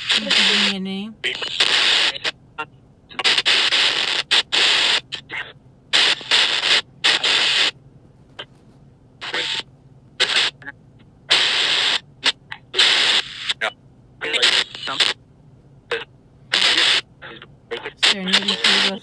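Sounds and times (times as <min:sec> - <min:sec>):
choppy radio static bursts: 0:00.0 - 0:15.2, 0:15.9 - 0:19.0.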